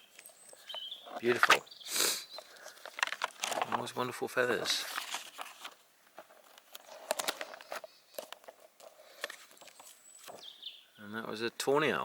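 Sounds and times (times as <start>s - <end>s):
book pages rustling and turning: 0.0s - 1.7s, 2.3s - 10.6s.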